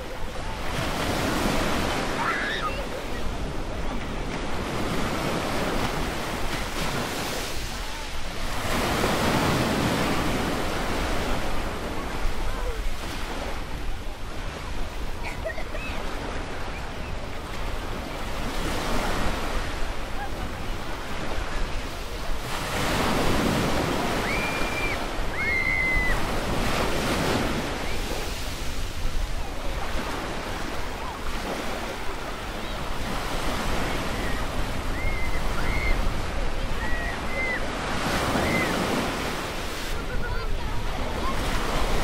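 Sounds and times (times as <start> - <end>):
ocean waves washing onto beach: 0.0 - 42.0.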